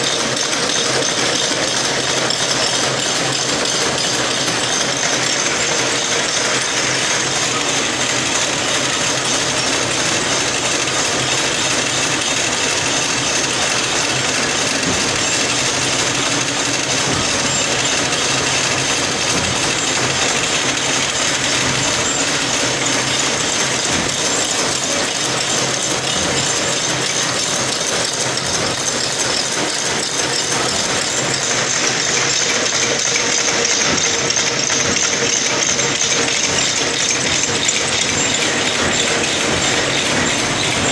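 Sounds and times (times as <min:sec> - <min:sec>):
machine rapid mechanical clatter: 0:00.0 - 0:40.9.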